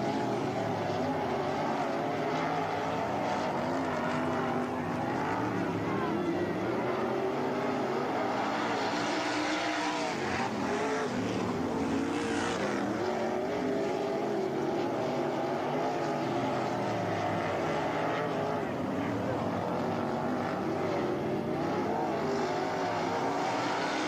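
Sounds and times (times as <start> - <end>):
race car engines running hard: 0.0 - 24.0.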